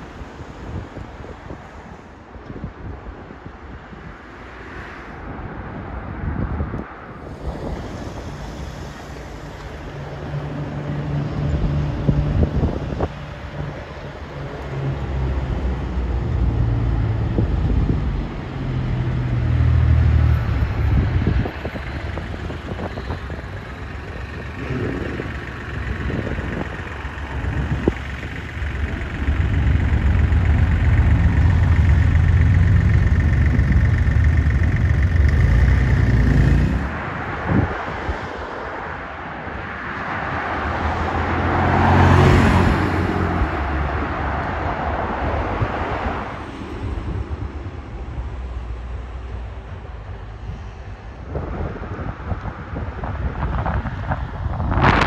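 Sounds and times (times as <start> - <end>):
car engines accelerating: 5.2 - 55.0.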